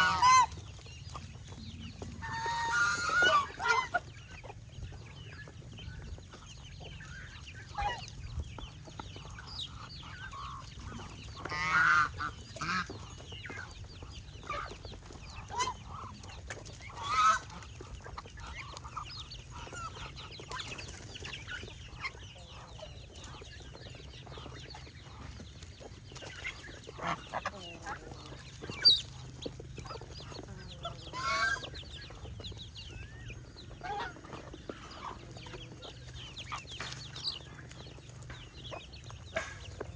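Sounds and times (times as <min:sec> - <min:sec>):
poultry clucking: 0:00.0 - 0:39.9.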